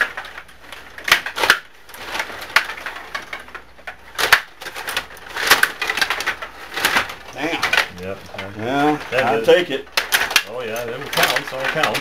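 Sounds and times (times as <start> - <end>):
table hockey plastic clacks: 0.0 - 12.0.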